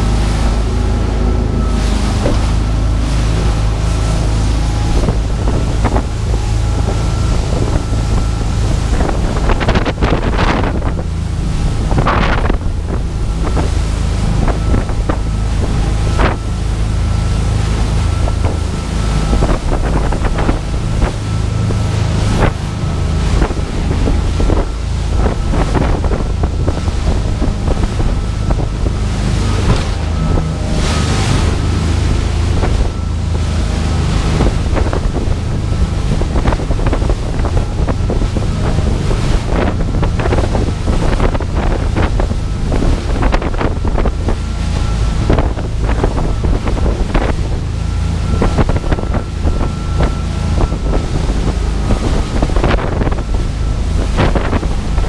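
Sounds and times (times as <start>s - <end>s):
boat engine droning: 0.0s - 55.0s
water splashing against hull: 0.0s - 55.0s
wind buffeting microphone: 0.0s - 55.0s.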